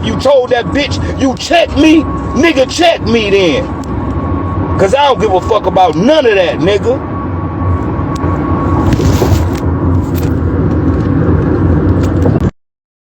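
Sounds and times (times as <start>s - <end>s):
car rumble in motion: 0.0s - 12.5s.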